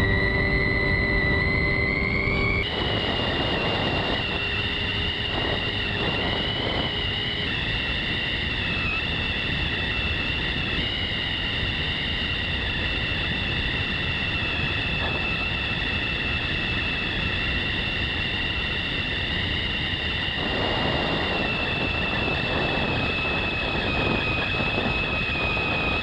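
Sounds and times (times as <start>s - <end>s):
electric motor and propeller whine: 0.0s - 26.0s
wind rushing over microphone: 0.0s - 26.0s.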